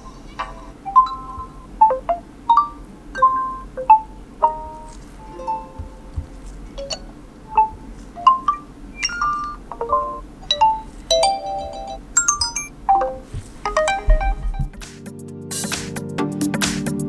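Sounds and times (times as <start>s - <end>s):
smartphone notification chimes: 0.5s - 14.7s.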